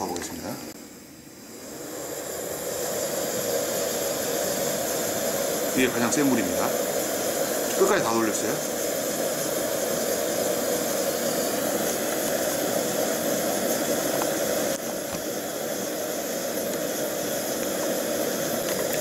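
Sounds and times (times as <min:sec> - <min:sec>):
gas stove burner roaring: 0:00.0 - 0:19.0.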